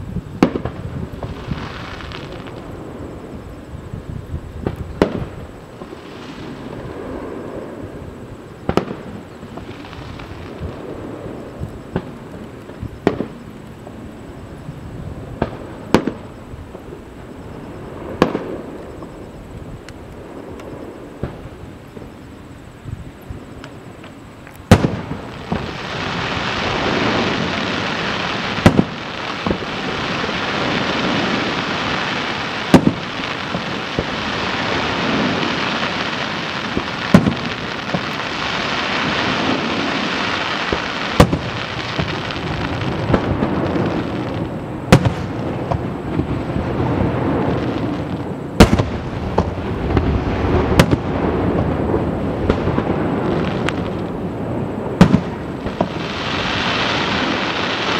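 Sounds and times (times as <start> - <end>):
firework booms: 0.0 - 14.0, 14.8 - 19.4, 20.2 - 22.2, 23.3 - 57.9
firework crackling hiss: 0.0 - 57.9.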